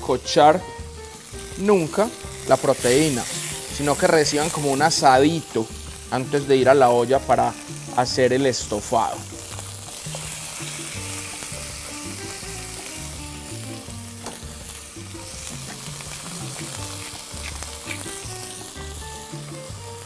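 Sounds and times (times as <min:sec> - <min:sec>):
meat sizzling in oil: 0:00.0 - 0:20.0
soft background music: 0:00.0 - 0:20.0.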